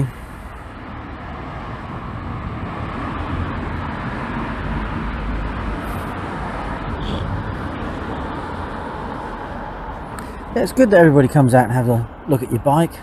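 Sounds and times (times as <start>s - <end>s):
passing traffic rush: 0.0s - 13.0s.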